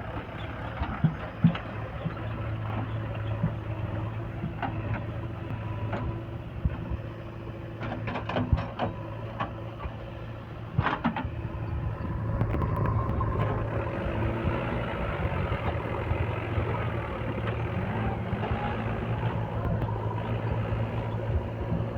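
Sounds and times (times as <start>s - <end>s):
heavy diesel engine running: 0.0s - 21.9s.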